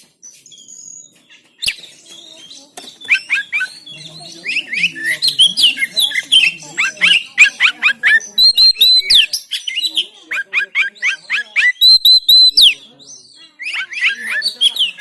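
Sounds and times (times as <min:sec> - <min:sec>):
bird singing chirps and whistles: 0:00.3 - 0:15.0.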